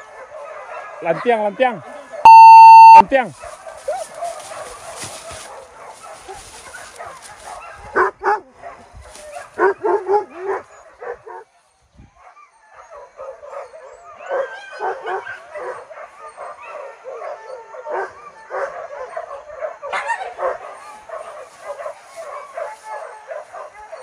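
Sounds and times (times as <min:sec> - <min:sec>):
dogs yelping and barking: 0:00.0 - 0:24.0.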